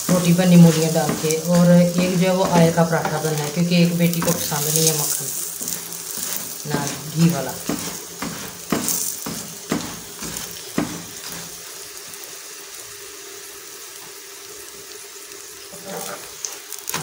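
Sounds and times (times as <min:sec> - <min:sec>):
butter sizzling on a hot pan: 0:00.0 - 0:17.0.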